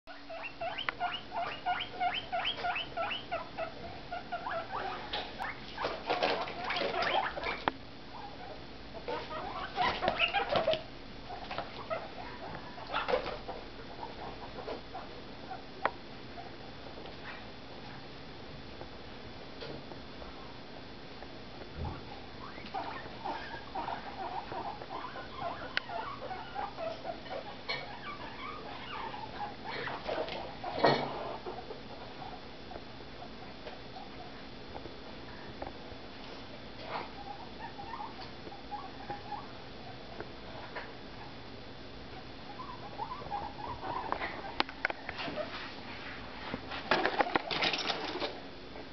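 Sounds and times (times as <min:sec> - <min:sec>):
guinea pigs squeaking: 0:00.1 - 0:18.0, 0:21.8 - 0:34.4, 0:36.2 - 0:41.4, 0:42.1 - 0:45.7, 0:46.8 - 0:48.5.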